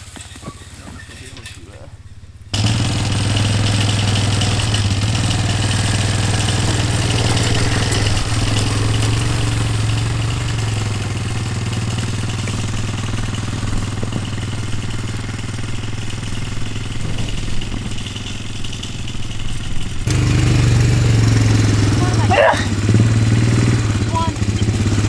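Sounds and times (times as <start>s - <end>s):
log dragging across grass: 0.0s - 22.0s
atv engine running: 0.0s - 25.0s.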